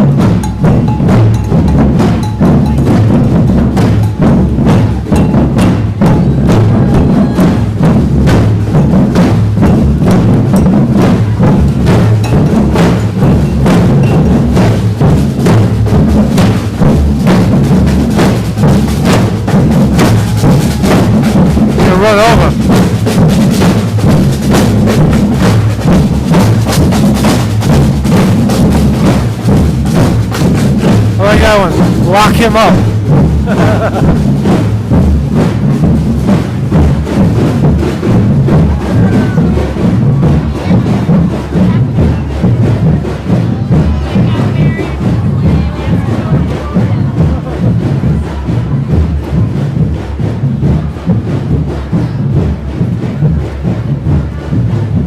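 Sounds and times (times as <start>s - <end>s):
group of drummers drumming: 0.0s - 55.0s.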